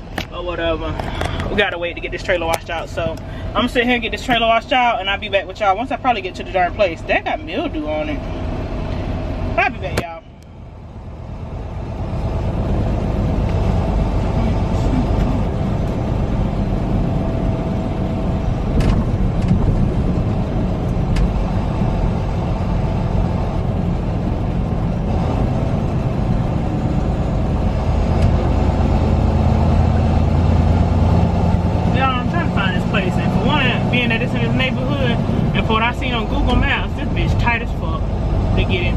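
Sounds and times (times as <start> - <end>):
diesel engine and road rumble: 0.0 - 38.9.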